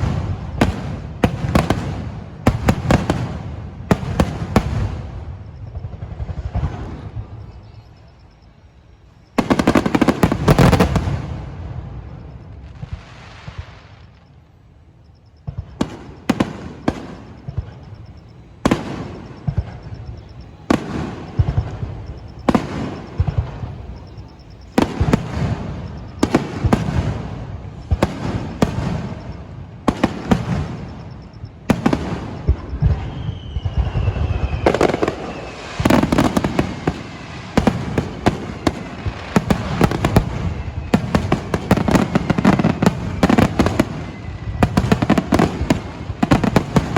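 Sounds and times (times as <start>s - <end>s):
descending firework whistles: 0.0s - 46.9s.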